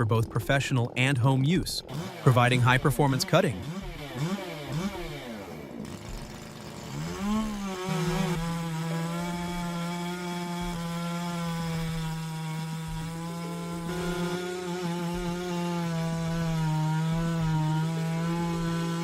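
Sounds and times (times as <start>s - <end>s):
chainsaw cutting wood: 1.8s - 19.0s.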